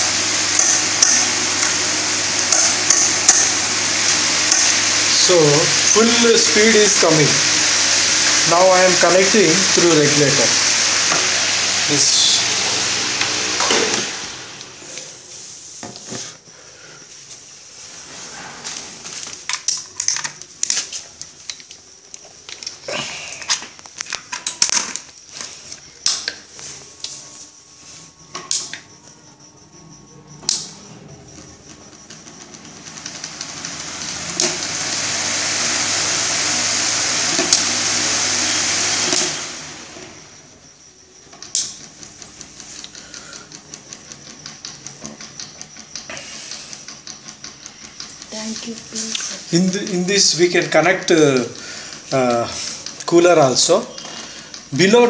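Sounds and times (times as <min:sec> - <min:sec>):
table fan air rush and hum: 0:00.0 - 0:55.0.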